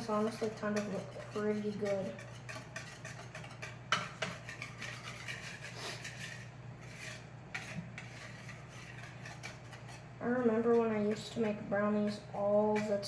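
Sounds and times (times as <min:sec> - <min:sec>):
whisk clinking on bowl: 0:00.0 - 0:13.0
whisk scraping a bowl: 0:00.0 - 0:13.0.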